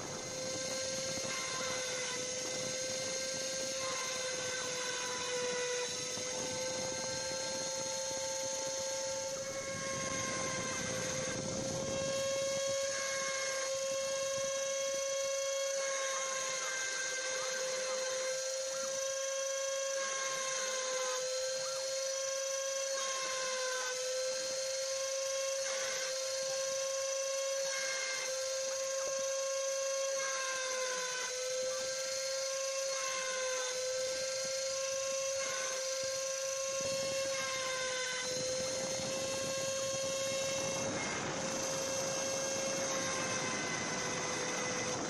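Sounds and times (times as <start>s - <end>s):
cutter hissing on metal: 0.0s - 45.0s
spindle motor high whine: 0.0s - 45.0s.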